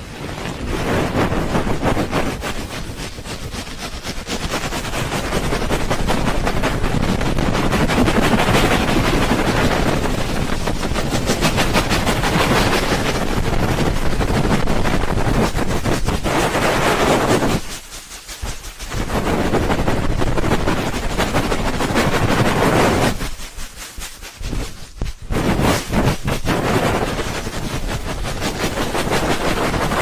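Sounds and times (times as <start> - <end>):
rubbing microphone ears whooshing: 0.4 - 30.0.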